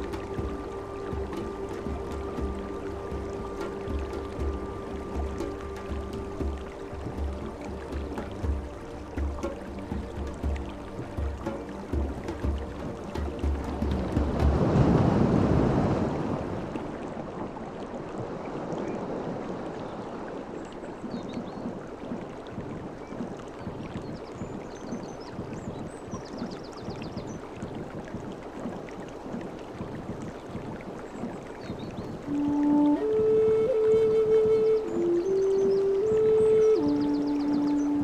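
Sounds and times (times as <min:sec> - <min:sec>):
sea waves washing: 0:00.0 - 0:38.0.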